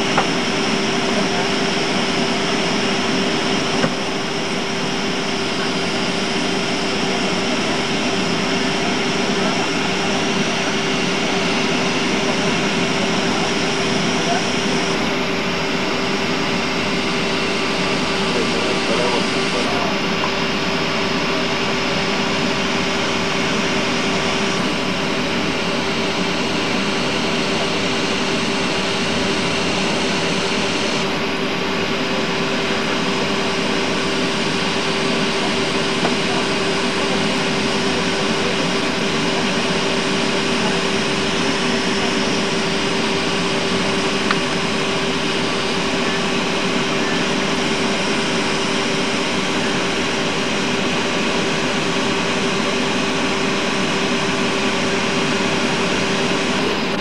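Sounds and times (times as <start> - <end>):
jet engine rushing whine: 0.0 - 57.0.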